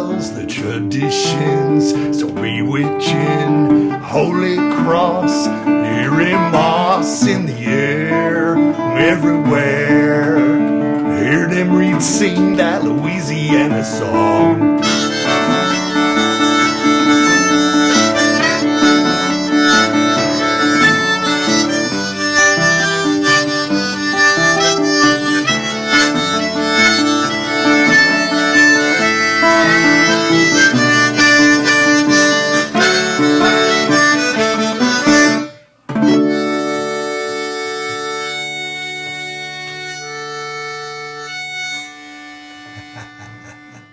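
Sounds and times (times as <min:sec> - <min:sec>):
guitar accompaniment: 0:00.0 - 0:43.9
harmonica playing: 0:00.0 - 0:43.9.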